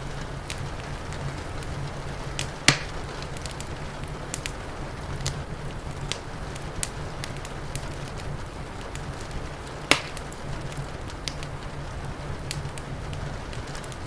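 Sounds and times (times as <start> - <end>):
rain hiss: 0.0 - 14.0
wood fire crackling: 0.0 - 14.0.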